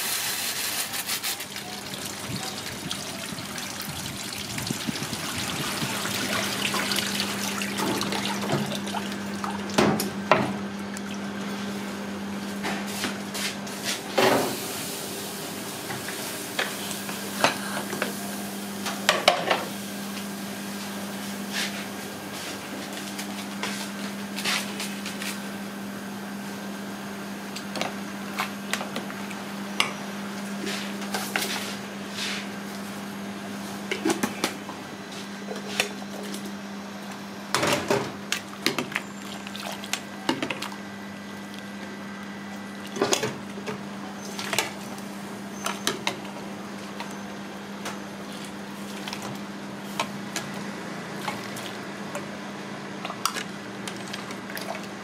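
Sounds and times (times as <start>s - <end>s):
gas stove low hum: 1.5s - 55.0s.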